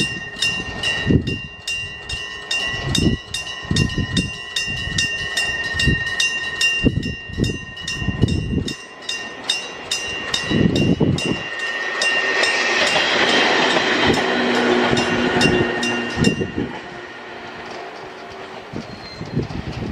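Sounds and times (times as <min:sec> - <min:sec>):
level crossing warning bell: 0:00.0 - 0:19.3
train motor hum: 0:00.0 - 0:19.9
train running noise: 0:00.0 - 0:19.9
train wheels clacking on rails: 0:00.0 - 0:19.9.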